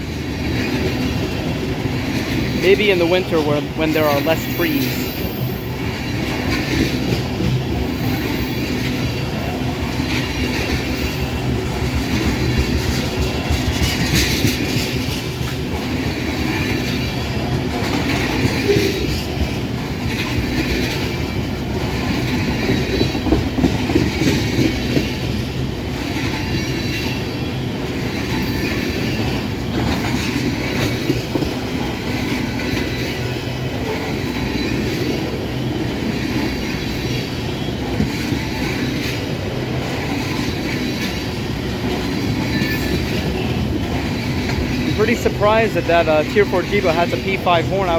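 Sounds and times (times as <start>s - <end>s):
wheels clattering over rail joints: 0.0s - 47.8s
freight train rumbling past: 0.0s - 47.9s.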